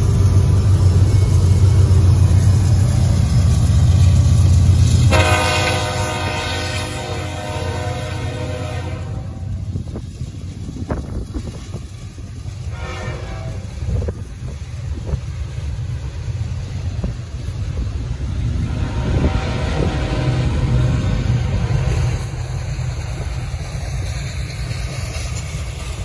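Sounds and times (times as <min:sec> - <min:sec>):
sharp train clanks: 0:00.0 - 0:26.0
train wheels rumbling on rail: 0:00.0 - 0:26.0.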